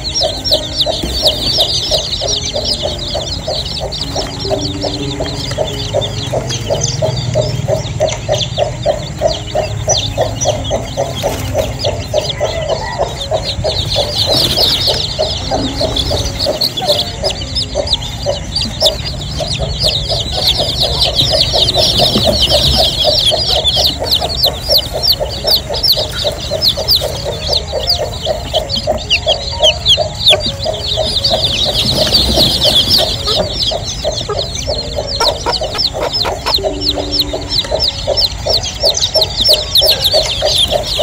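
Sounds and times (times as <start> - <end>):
chicks cheeping: 0.0 - 41.0
hen clucking rapidly: 0.0 - 41.0.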